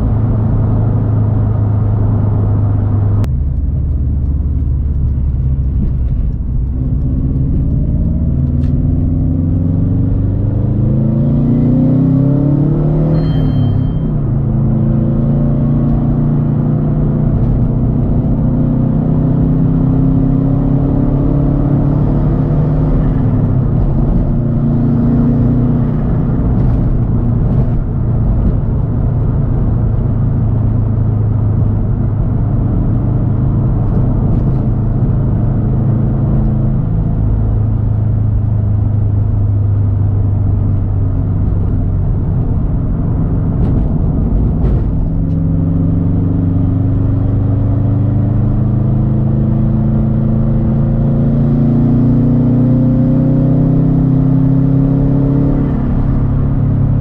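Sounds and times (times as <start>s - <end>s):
car engine running loudly: 0.0s - 57.0s
deep exhaust rumble: 0.0s - 57.0s.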